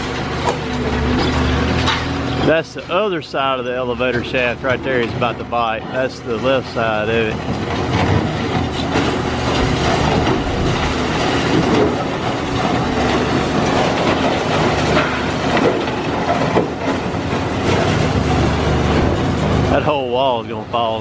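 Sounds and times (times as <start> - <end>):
concrete crunching and cracking: 0.0 - 20.0
excavator engine hum: 0.0 - 21.0.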